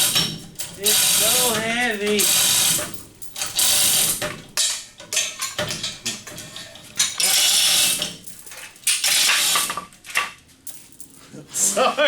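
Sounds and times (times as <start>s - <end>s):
metal tools clanking: 0.0s - 3.8s, 4.5s - 11.2s.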